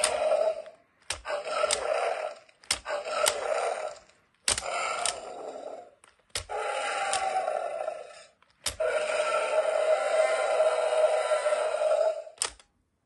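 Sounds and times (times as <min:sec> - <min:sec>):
toy dinosaur electronic roar: 0:00.0 - 0:12.6.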